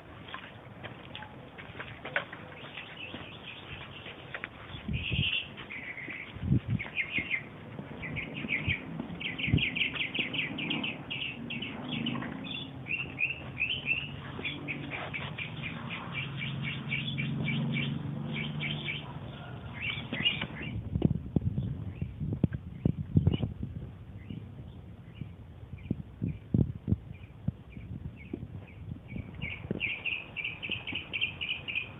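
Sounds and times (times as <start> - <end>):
birds chirping: 2.1 - 26.5, 27.1 - 31.9.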